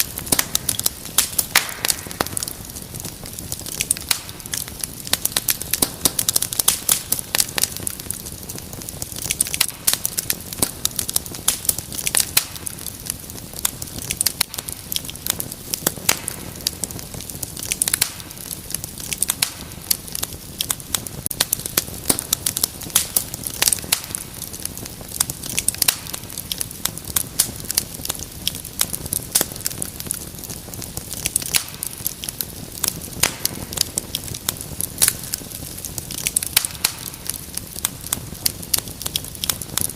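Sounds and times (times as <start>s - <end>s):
low hiss of burning: 0.0s - 39.9s
wood fire crackling: 0.0s - 39.9s.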